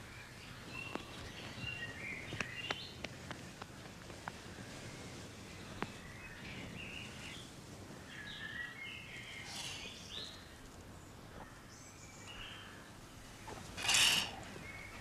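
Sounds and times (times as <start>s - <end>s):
faint birdsong chirping: 0.0s - 15.0s.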